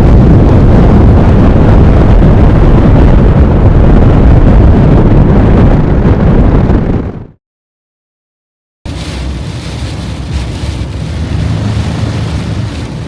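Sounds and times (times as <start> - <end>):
storm wind buffeting microphone: 0.0 - 7.4, 8.9 - 13.0.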